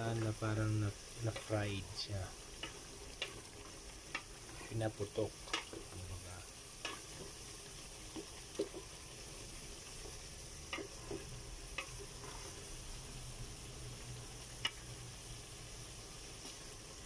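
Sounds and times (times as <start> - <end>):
wooden spatula stirring: 0.0 - 15.3
meat sizzling in oil: 0.0 - 17.0.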